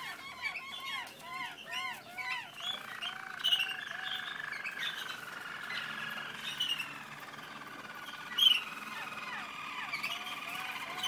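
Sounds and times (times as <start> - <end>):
canaries trilling: 0.0 - 11.0
high bird chirps: 0.0 - 11.0.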